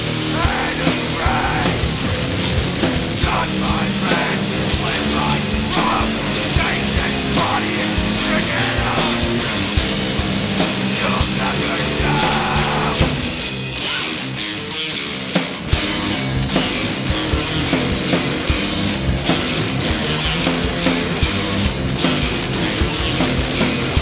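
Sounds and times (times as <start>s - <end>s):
steady drum beat: 0.0s - 13.8s, 15.4s - 24.0s
distorted guitar and bass: 0.0s - 24.0s.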